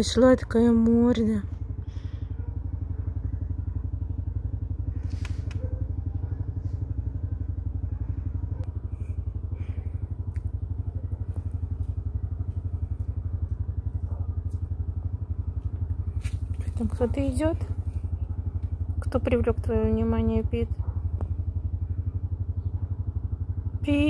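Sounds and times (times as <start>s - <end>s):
pulsing motor hum: 0.0s - 24.0s.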